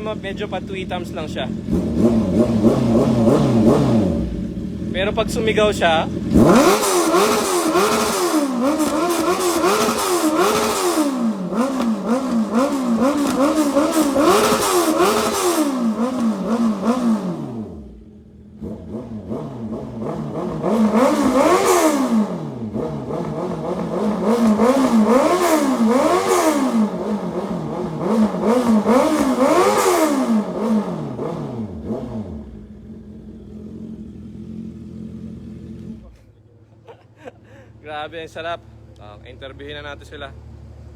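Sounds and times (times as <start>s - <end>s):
motorcycle engine revving: 0.0s - 36.4s.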